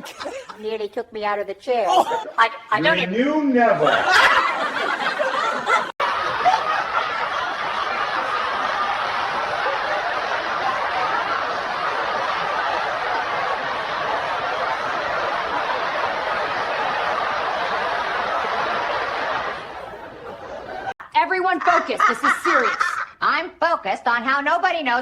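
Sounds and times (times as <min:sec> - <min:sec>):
group of people laughing: 0:00.0 - 0:00.7, 0:01.8 - 0:23.2.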